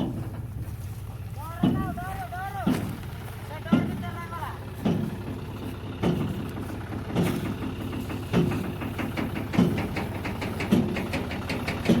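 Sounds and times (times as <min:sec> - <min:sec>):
farm machinery engine running: 0:00.0 - 0:12.0
heavy machine thumps: 0:01.6 - 0:02.0, 0:02.6 - 0:12.0.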